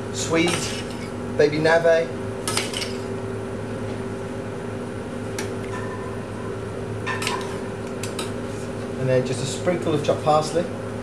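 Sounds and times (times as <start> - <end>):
mechanical fan hum: 0.0 - 11.0.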